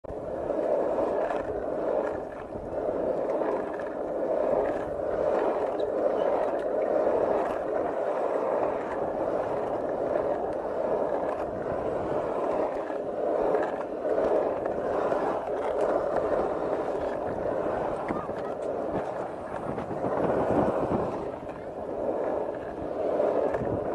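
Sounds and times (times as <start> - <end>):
skateboard wheels rolling on asphalt: 0.0 - 23.9.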